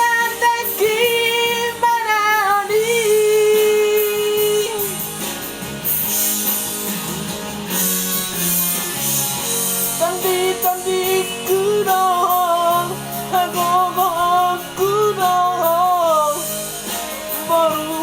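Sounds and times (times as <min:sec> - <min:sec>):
guitar-led instrumental music: 0:00.0 - 0:18.0.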